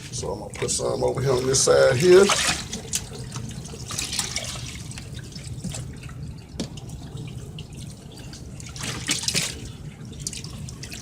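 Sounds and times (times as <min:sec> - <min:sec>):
low steady hum: 0:00.0 - 0:11.0
water dripping and splashing: 0:00.0 - 0:11.0.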